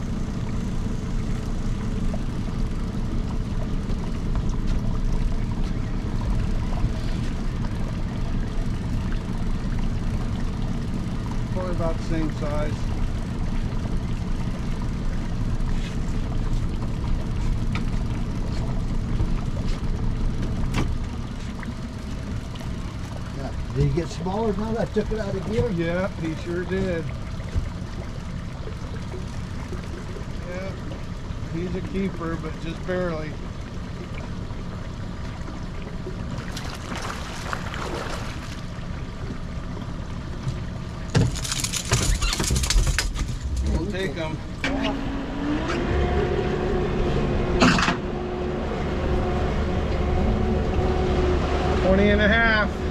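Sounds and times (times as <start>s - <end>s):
boat motor rumbling: 0.0s - 52.9s
water noise: 0.0s - 52.9s.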